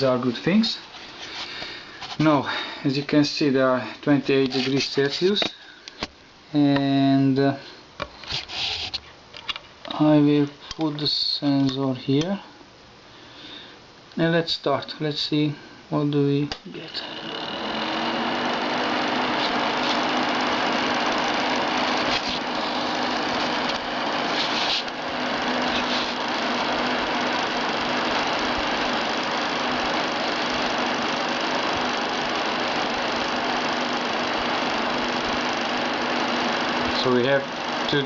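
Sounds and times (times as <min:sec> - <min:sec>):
electric fan humming: 0:00.0 - 0:38.0.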